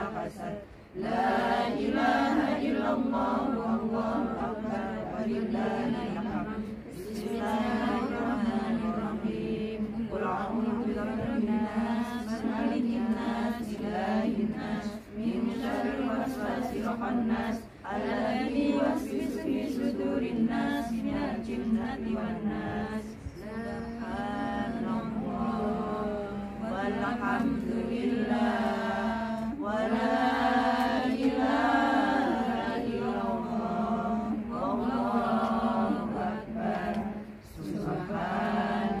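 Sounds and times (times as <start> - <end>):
women chanting in unison: 0.0 - 39.0.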